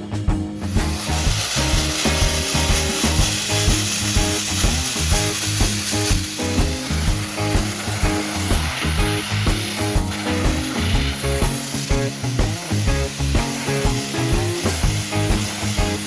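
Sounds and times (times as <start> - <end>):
rock music: 0.0 - 16.0
sandblaster hissing rush: 0.6 - 16.0.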